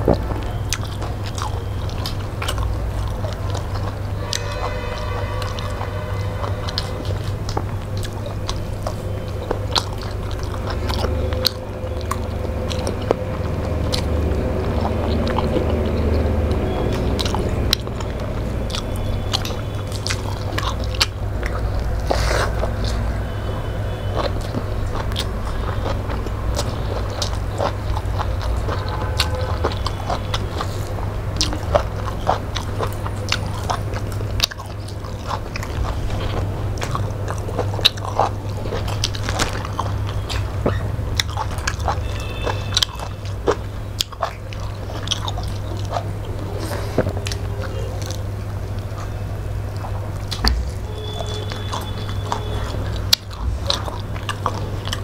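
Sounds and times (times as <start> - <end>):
chewing and mouth smacks: 0.0 - 55.0
steady low hum: 0.0 - 55.0.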